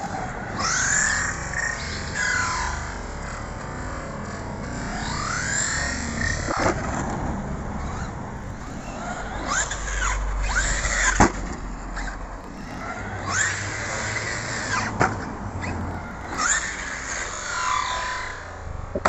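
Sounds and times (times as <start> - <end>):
electric motor whining and revving: 0.0 - 19.0.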